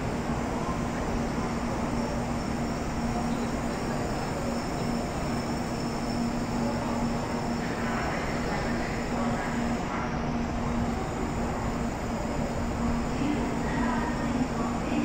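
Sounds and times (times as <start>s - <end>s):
train idling hum: 0.0s - 15.0s.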